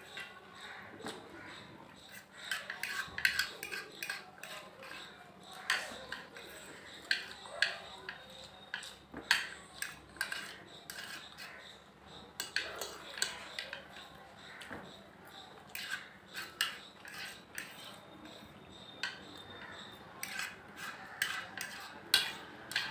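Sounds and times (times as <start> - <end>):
cutlery clinking on plates: 2.0 - 11.6, 12.3 - 15.0, 15.6 - 22.9.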